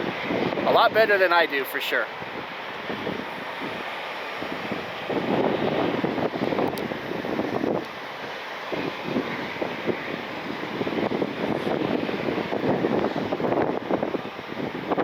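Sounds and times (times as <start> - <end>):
distant jet engines rushing: 0.0 - 15.0
wind buffeting microphone: 0.0 - 15.0.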